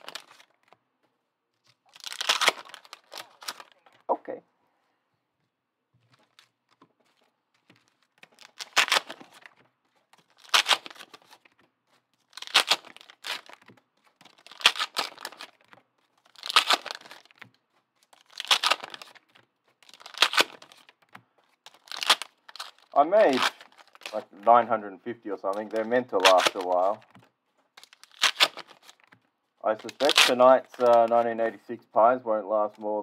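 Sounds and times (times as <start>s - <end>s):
card pack wrappers tearing: 0.0s - 0.7s, 1.6s - 4.1s, 6.1s - 24.8s, 25.4s - 31.6s.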